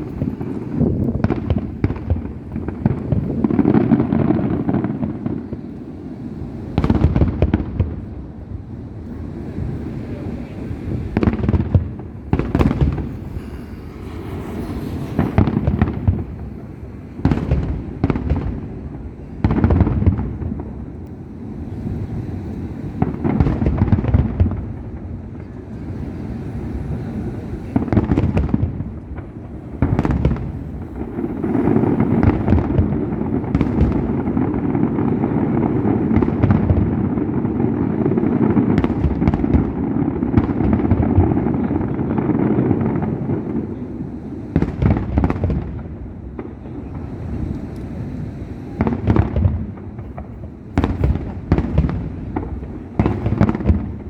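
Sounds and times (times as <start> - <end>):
fireworks booming: 0.0 - 54.0.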